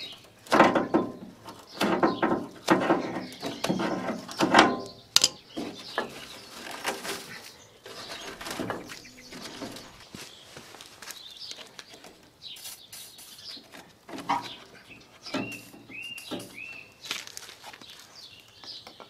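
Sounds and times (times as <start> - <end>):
bird calling: 2.9 - 19.0.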